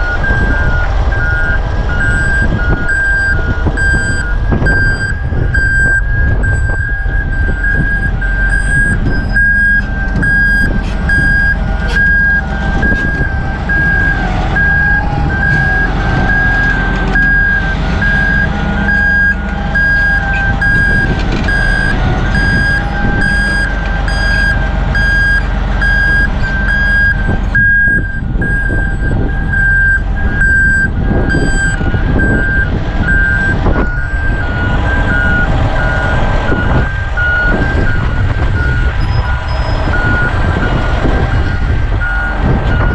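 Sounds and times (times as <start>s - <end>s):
diesel engine rumbling: 0.0s - 42.9s
travel alarm beeping: 0.0s - 42.9s.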